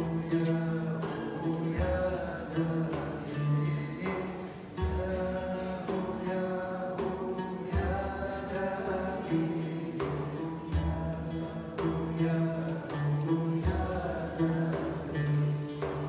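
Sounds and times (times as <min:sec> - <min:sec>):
frame drum beats: 0:00.0 - 0:16.0
plucked lute: 0:00.0 - 0:16.0.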